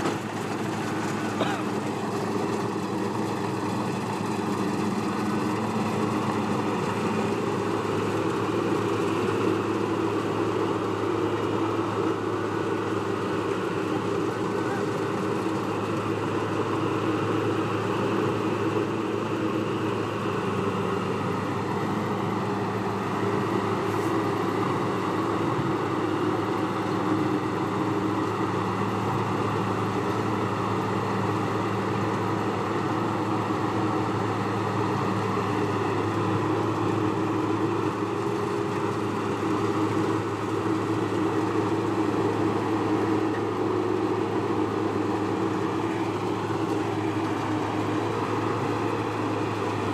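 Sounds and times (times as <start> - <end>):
farm machine engine running: 0.0 - 49.9.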